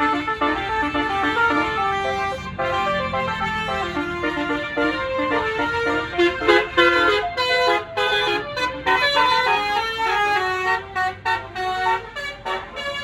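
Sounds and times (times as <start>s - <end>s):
musical air horn playing melody: 0.0s - 13.0s.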